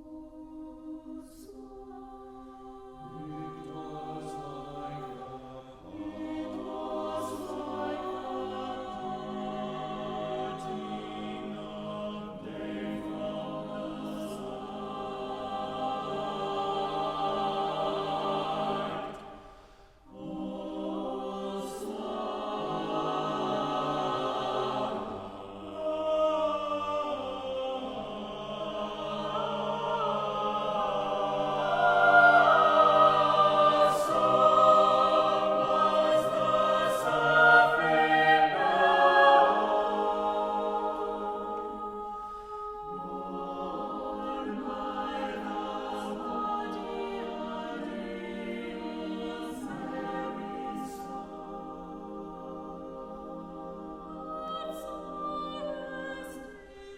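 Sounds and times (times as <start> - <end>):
mixed choir singing: 0.0 - 56.9.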